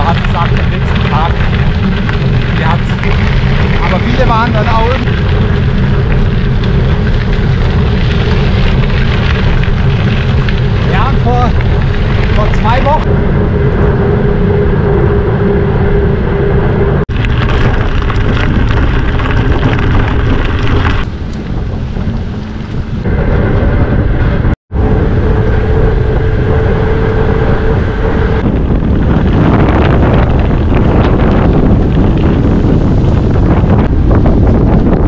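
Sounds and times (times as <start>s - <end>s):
bicycle tyres rolling: 0.0s - 35.0s
wind buffeting microphone: 0.0s - 35.0s.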